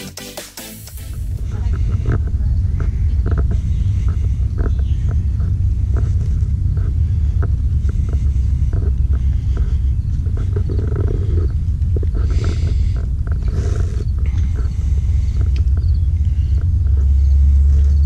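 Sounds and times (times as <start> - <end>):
car interior road and engine noise: 0.9 - 18.0
faint clicks: 1.7 - 18.0.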